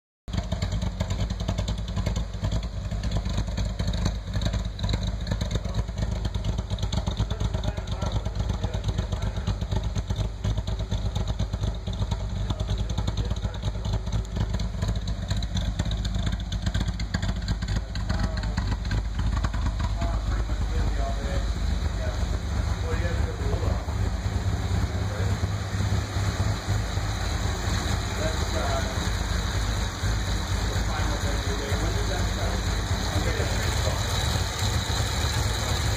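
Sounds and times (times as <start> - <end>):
car engine idling with pulsing beat: 0.3 - 35.9.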